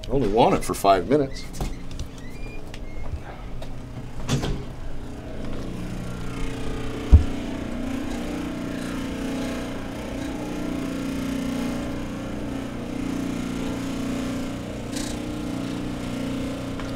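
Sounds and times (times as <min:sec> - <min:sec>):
motor humming: 0:00.8 - 0:16.9.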